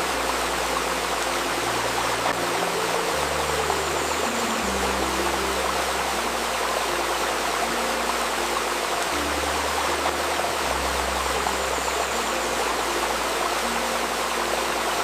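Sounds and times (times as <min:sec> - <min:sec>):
low synth tones: 0:00.0 - 0:15.0
river rushing: 0:00.0 - 0:15.0.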